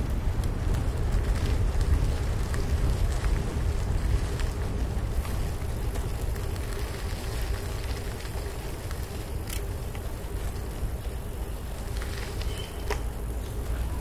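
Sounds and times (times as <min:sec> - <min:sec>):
bicycle tyre noise on trail: 0:00.0 - 0:14.0
wind rumbling on microphone: 0:00.0 - 0:14.0.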